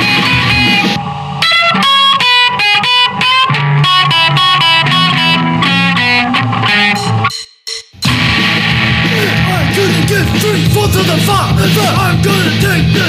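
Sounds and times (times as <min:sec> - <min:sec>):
low sustained rhythm guitar: 0:00.0 - 0:07.3, 0:08.1 - 0:13.0
distorted electric guitar notes: 0:00.0 - 0:13.0.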